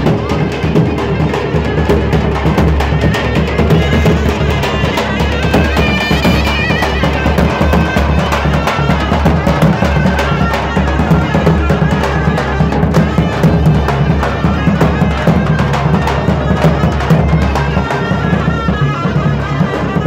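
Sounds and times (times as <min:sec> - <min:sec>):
steady drum beats: 0:00.0 - 0:20.0.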